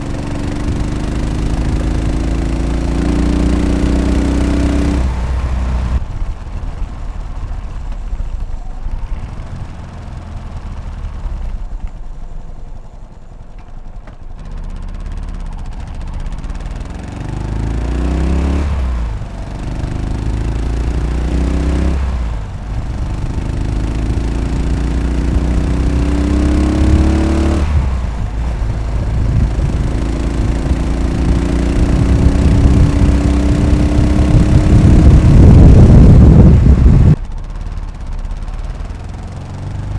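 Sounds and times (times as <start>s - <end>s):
gear upshifts: 0.0s - 39.9s
motorcycle engine revving: 0.0s - 39.9s.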